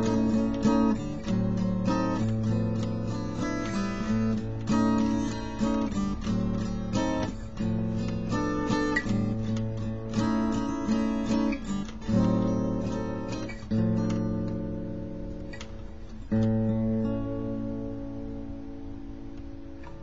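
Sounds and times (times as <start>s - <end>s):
acoustic guitar chords ringing: 0.0s - 20.0s.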